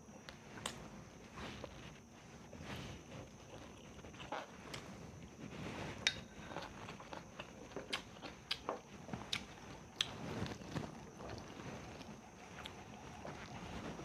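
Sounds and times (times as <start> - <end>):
person chewing food: 2.5 - 14.0.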